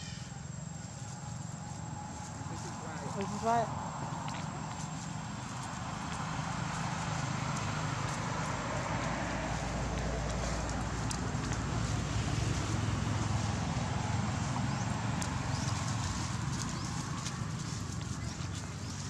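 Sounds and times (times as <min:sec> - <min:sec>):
dry leaves crackling: 0:00.0 - 0:19.0
low outdoor rumble: 0:00.0 - 0:19.0.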